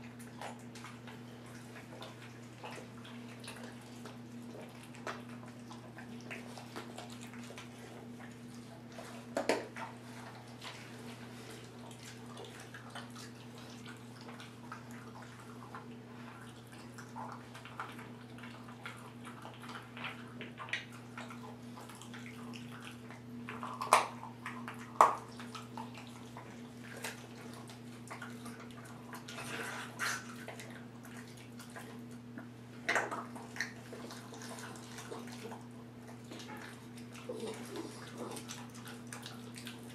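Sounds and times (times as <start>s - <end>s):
puppy chewing bones: 0.0s - 39.9s.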